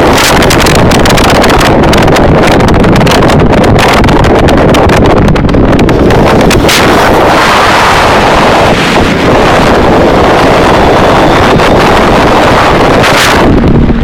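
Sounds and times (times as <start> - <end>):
motorcycle engine: 0.0 - 14.0
road noise: 0.0 - 14.0
wind buffeting microphone: 0.0 - 14.0.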